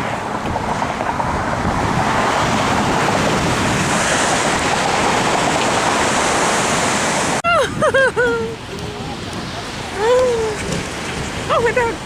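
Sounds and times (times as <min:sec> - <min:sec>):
ocean surf washing onto beach: 0:00.0 - 0:12.0
wind buffeting microphone: 0:00.0 - 0:12.0.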